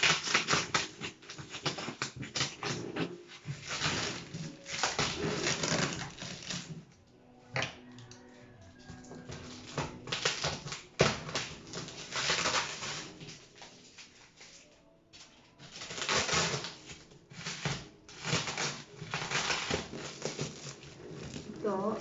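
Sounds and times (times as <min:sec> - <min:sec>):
packaging rustling and ripping: 0:00.0 - 0:07.0, 0:08.9 - 0:22.0.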